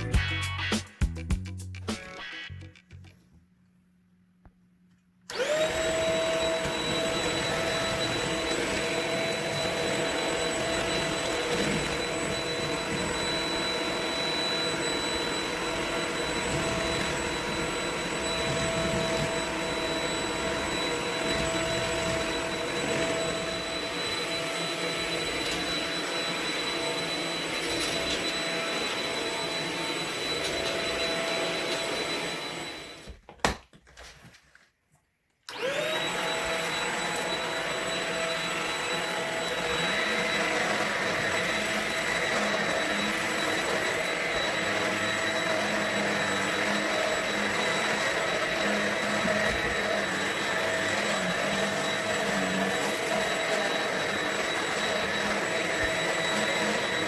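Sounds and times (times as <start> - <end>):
stick vacuum whining: 5.3 - 33.6, 35.5 - 57.0.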